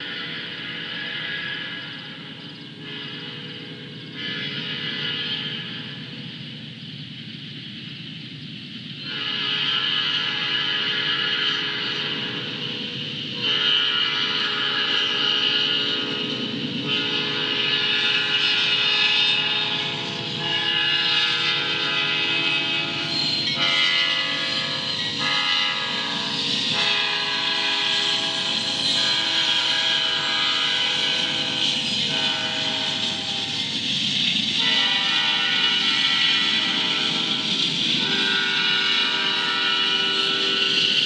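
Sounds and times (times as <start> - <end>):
locomotive air horn blasts: 0.0 - 2.1, 2.7 - 6.0, 9.0 - 33.7, 34.6 - 41.0
low rumble of train: 0.0 - 41.0.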